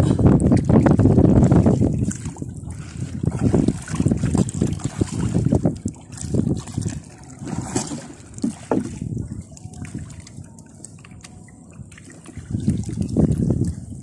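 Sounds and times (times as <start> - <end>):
wind rumbling on microphone: 0.0 - 14.0
paddle splashing through water: 0.5 - 14.0.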